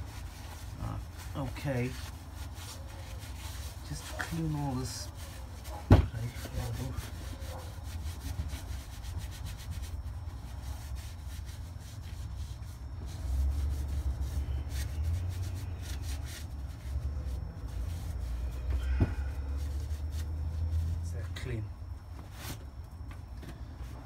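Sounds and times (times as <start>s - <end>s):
cloth rubbing on metal: 0.0s - 21.4s.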